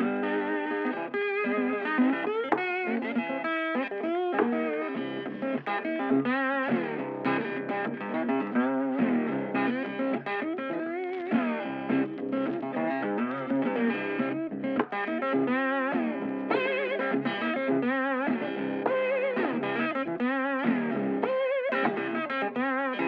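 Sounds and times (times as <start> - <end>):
electric guitar vibrato melody: 0.0 - 23.0.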